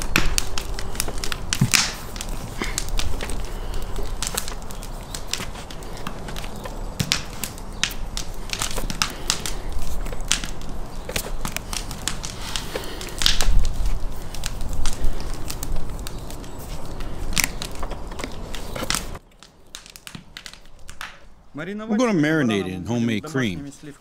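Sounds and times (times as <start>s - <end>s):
rustling: 0.0s - 21.2s
wire clicking and scraping: 0.0s - 21.2s.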